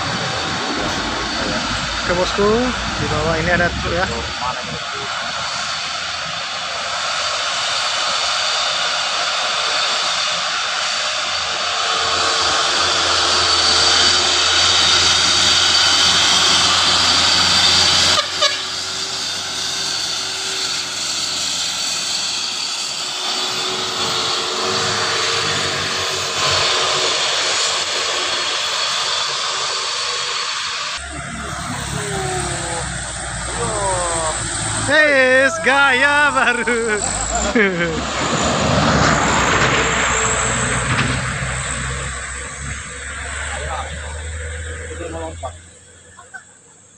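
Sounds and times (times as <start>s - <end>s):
truck diesel engine straining: 0.0s - 46.9s.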